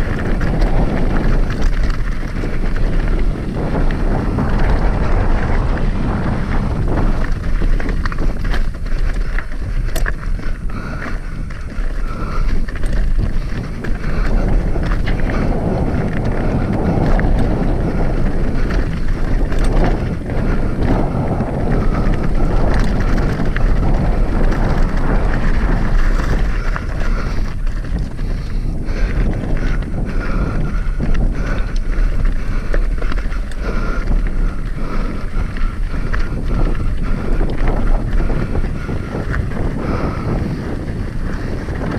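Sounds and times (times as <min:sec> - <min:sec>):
bike frame and chain rattling: 0:00.0 - 0:41.9
wind buffeting microphone: 0:00.0 - 0:41.9.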